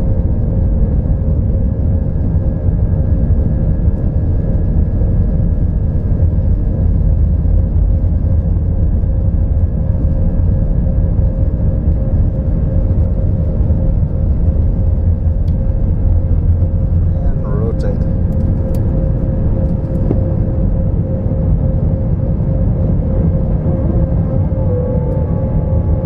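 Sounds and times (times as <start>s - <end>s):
jet engines and wheels rumbling: 0.0s - 26.0s.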